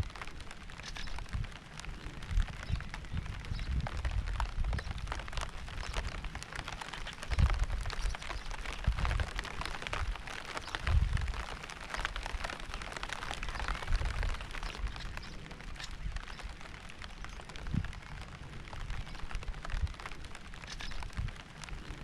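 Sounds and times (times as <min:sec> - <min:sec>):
raindrops pattering: 0:00.0 - 0:22.0.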